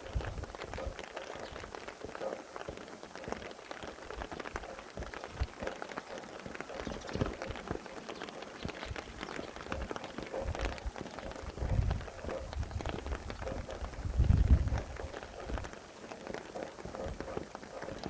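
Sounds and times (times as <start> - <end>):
rain falling: 0.0 - 18.0
raindrops ticking close by: 0.0 - 18.0.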